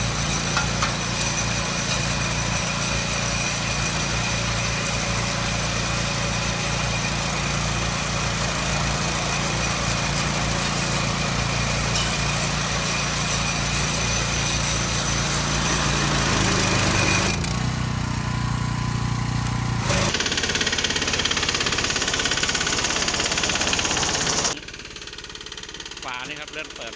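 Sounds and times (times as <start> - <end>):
hay baler hiss and clatter: 0.0 - 26.7
engine running: 0.0 - 26.9.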